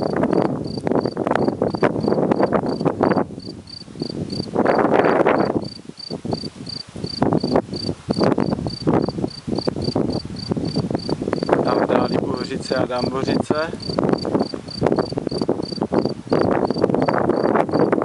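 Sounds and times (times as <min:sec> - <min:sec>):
cricket chirping: 0:00.0 - 0:12.2, 0:13.8 - 0:18.0
wind buffeting microphone: 0:00.0 - 0:18.0.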